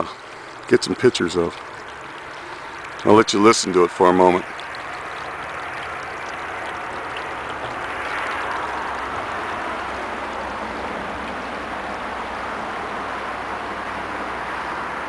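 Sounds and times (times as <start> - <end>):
low rumble of road traffic: 0.0 - 15.0
waterfall rushing: 0.0 - 15.0.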